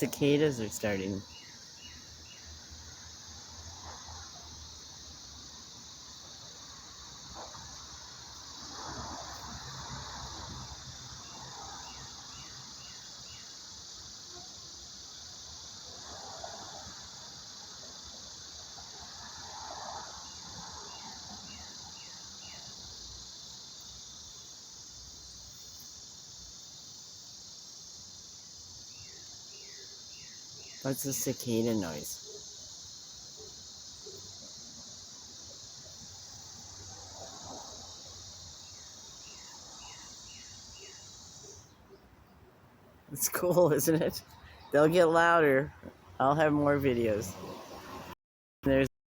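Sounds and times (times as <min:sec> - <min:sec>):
cicadas buzzing: 0:00.0 - 0:48.2.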